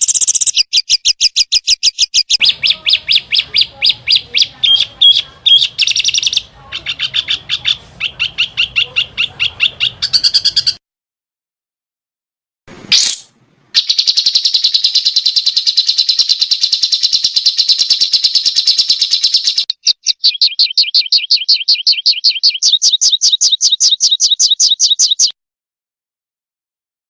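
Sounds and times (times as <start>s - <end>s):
songbird trilling: 0.0s - 10.8s, 13.8s - 25.4s.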